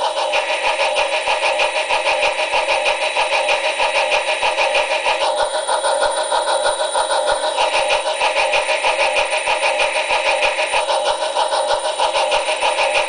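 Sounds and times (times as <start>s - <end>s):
model locomotive engine pulsing: 0.0s - 13.0s.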